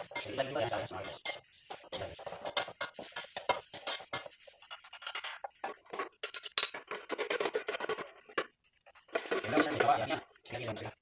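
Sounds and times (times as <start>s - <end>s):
wooden spatula scraping a wok: 0.0s - 11.0s.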